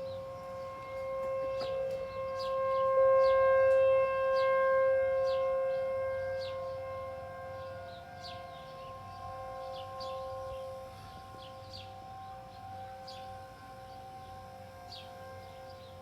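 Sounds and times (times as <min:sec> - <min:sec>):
warning siren steady tone: 0:00.0 - 0:16.0.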